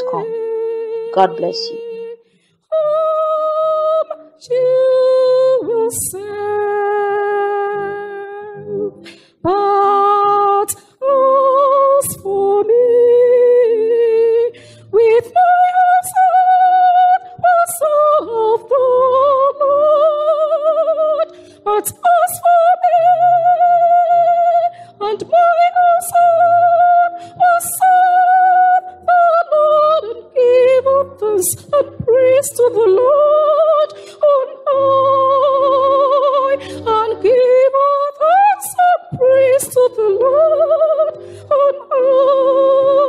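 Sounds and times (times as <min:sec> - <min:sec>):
soft low accompaniment: 0:00.0 - 0:43.0
woman singing with vibrato: 0:00.0 - 0:43.0.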